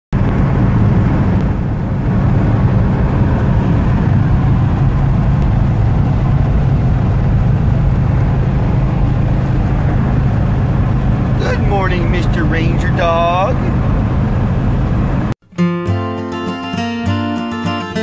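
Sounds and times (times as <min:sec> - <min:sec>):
road and wind noise: 0:00.1 - 0:15.4
van engine drone: 0:00.1 - 0:15.4.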